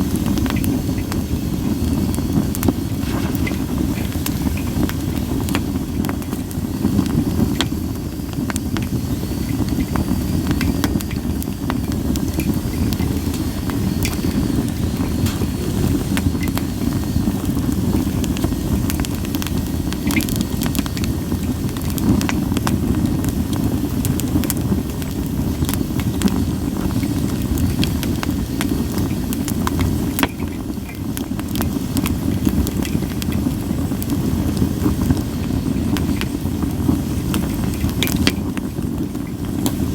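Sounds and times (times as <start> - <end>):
campfire burning: 0.0 - 39.9
fire popping and crackling: 0.0 - 39.9.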